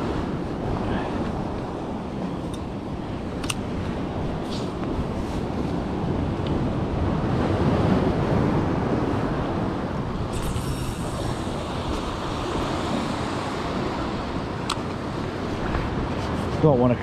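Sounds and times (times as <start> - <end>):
sea waves washing against rocks: 0.0 - 17.0
wind buffeting microphone: 0.0 - 17.0.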